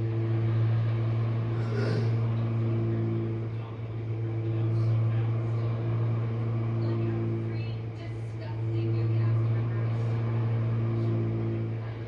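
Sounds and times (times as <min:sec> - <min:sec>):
dishwasher pump humming: 0:00.0 - 0:12.0.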